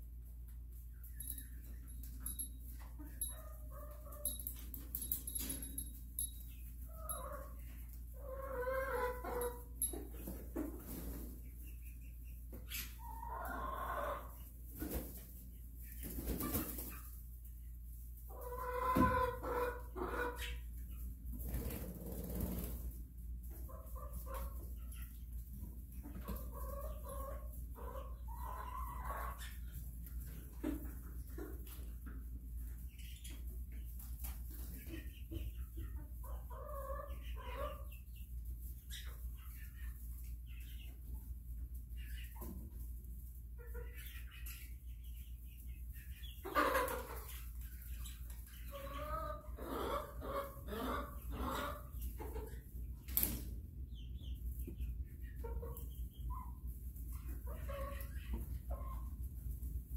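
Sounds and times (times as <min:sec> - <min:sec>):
chickens calling: 0:00.0 - 0:59.9.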